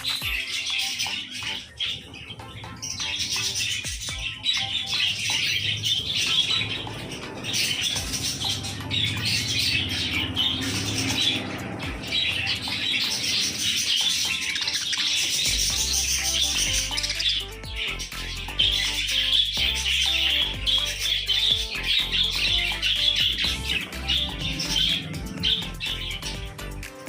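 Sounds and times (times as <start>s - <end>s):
budgerigar chirping: 0.0s - 26.9s.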